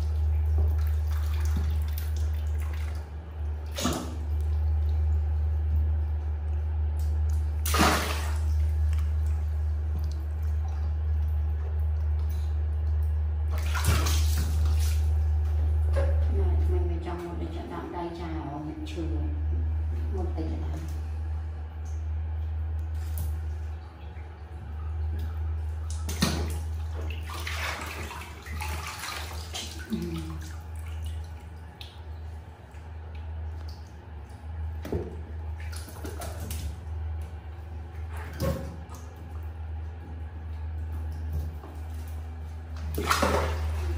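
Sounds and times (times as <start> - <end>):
steady low hum: 0.0 - 43.9
water splashing in a bath: 0.0 - 43.9.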